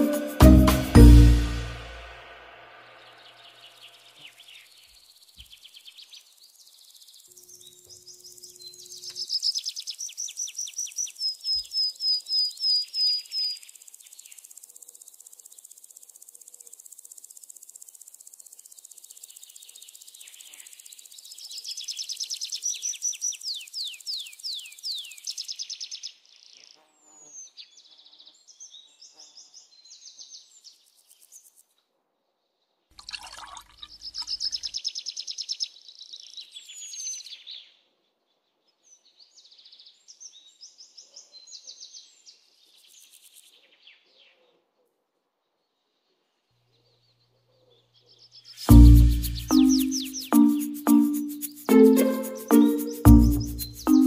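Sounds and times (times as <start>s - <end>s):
songbird chirping: 0.0s - 17.7s, 18.7s - 31.6s, 33.0s - 44.6s, 45.5s - 54.0s.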